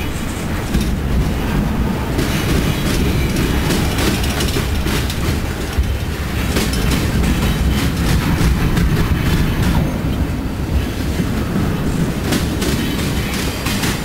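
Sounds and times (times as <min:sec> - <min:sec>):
train wheels rumbling on rail: 0:00.0 - 0:14.0
wheels clicking over rail joints: 0:00.0 - 0:14.0.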